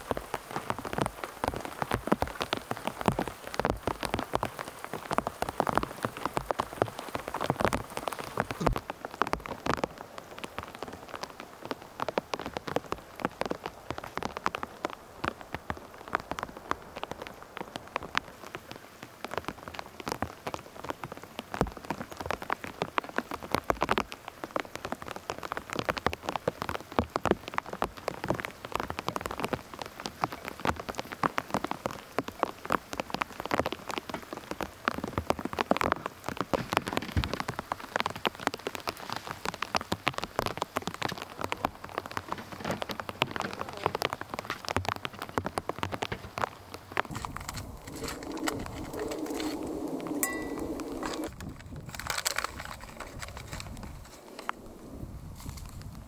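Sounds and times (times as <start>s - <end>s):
raindrops ticking: 0.0s - 56.0s
steady rain falling: 0.0s - 56.0s.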